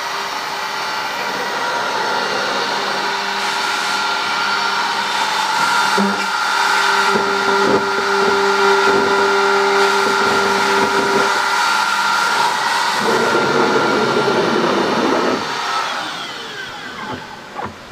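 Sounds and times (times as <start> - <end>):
router spindle high whine: 0.0 - 17.9
bit cutting plastic: 3.2 - 17.9.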